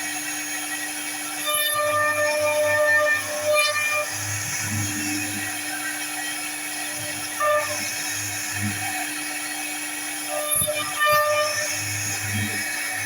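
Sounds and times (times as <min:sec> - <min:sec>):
router spindle whine: 0:00.0 - 0:13.0.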